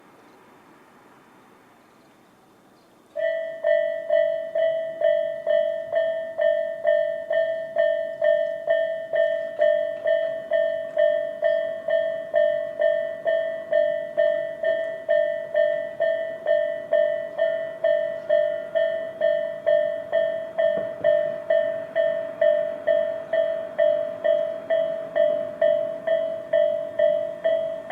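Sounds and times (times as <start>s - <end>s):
level crossing alarm dinging: 3.2s - 27.9s.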